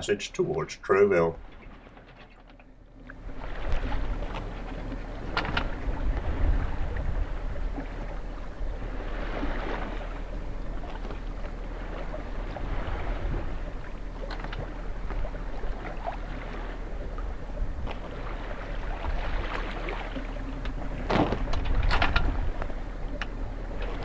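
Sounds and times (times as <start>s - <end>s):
water rushing along boat hull: 0.0s - 24.0s.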